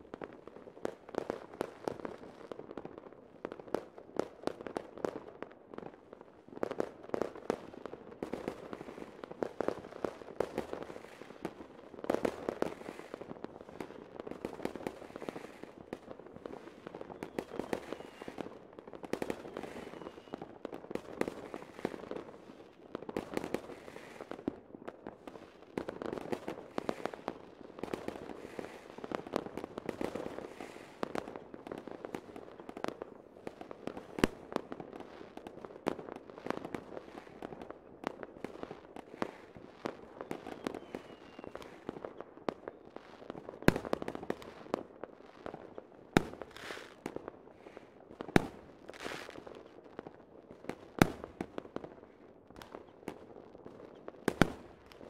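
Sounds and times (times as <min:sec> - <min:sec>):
fireworks popping and banging: 0:06.6 - 0:52.0, 0:52.6 - 0:55.0.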